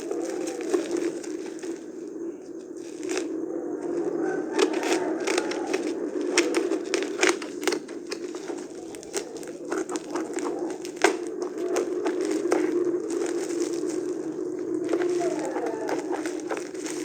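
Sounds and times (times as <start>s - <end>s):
packaging crinkling: 0.0s - 17.0s
sharp clicks: 3.0s - 17.0s.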